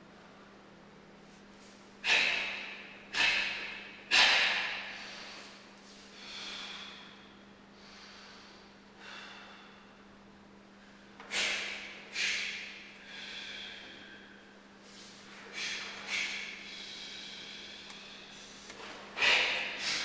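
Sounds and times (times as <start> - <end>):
faint steady hum: 0.0 - 20.0
forceful hissing breaths: 1.6 - 10.0, 11.2 - 20.0.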